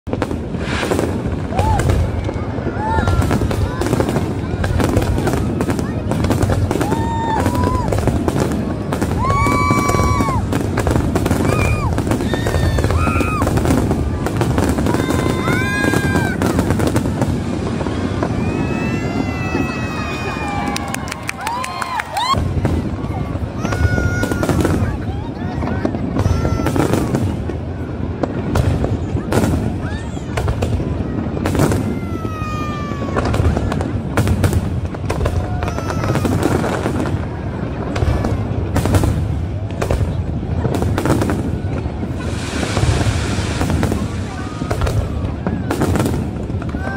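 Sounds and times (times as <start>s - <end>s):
fireworks crackling and popping: 0.0s - 46.9s.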